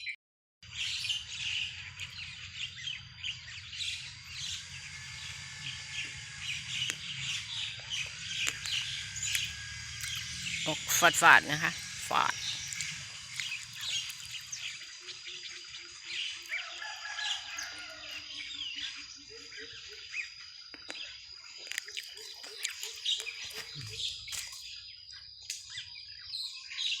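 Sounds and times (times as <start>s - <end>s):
birds chirping and calling: 0.7s - 27.0s
high-pitched insect drone: 0.8s - 25.0s.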